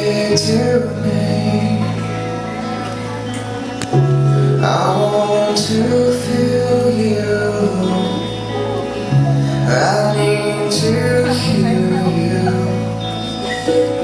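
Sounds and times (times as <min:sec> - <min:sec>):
sung vocals: 0:00.0 - 0:14.0
sustained bass notes: 0:00.0 - 0:14.0.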